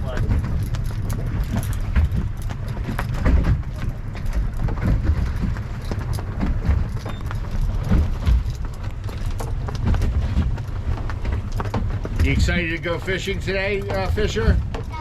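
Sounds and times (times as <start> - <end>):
boat engine low rumble: 0.0 - 15.0.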